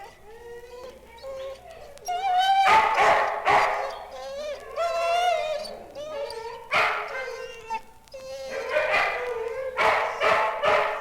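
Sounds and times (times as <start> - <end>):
dogs barking and yelping: 0.0 - 11.0
dogs whining: 0.0 - 11.0.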